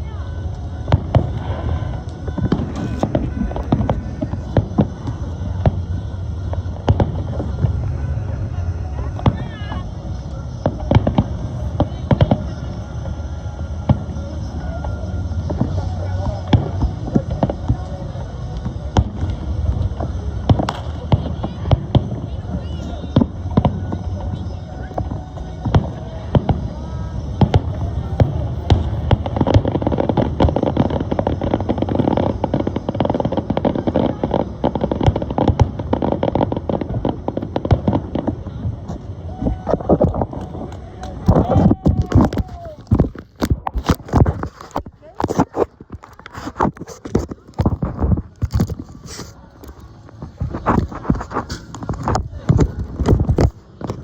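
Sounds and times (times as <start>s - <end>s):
fireworks bangs and cracks: 0.0s - 13.2s, 13.8s - 54.0s
steady low rumble: 0.0s - 54.0s.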